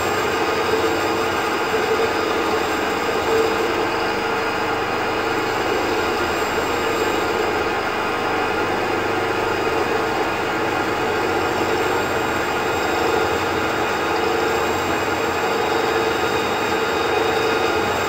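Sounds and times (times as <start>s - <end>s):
band saw cutting wood: 0.0s - 18.0s.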